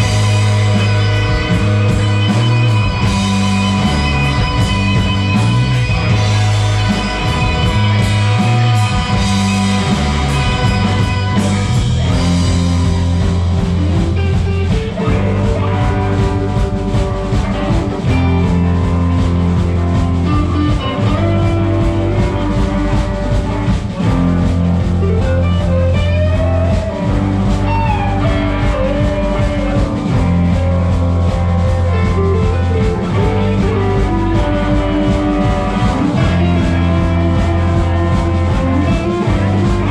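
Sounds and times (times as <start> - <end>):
guitar sliding between notes: 0.0 - 39.9
rock band playing: 0.0 - 39.9.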